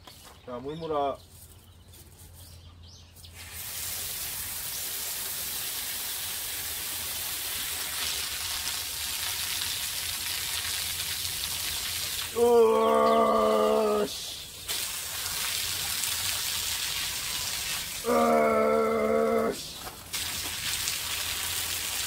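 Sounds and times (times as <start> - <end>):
water pouring: 3.4 - 22.0.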